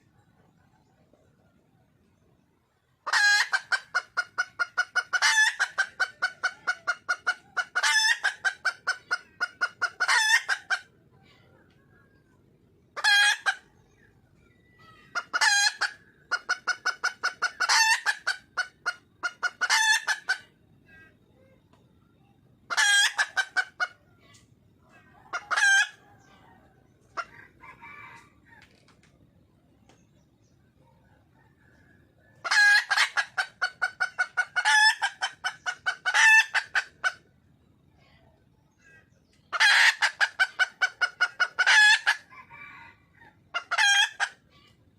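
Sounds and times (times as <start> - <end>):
junglefowl hen clucking: 0.0 - 44.9.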